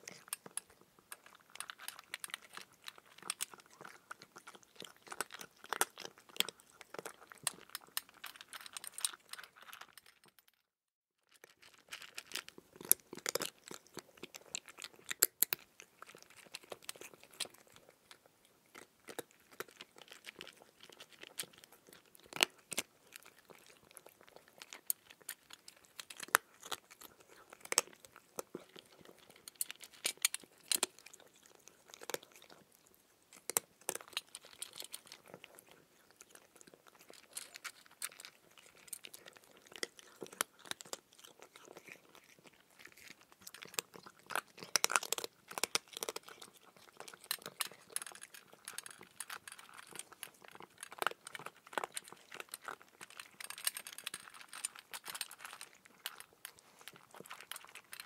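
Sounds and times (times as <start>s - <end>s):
person chewing cucumber crunches: 11.4s - 58.0s.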